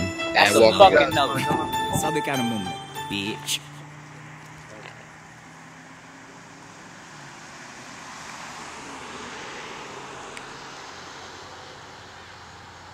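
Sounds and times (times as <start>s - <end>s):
car passing on road: 0.4s - 12.9s.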